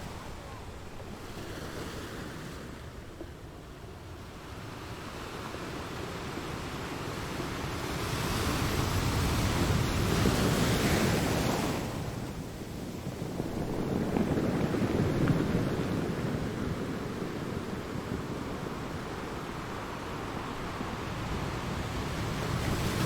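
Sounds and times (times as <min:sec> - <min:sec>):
ocean waves breaking on shore: 0:00.0 - 0:23.0.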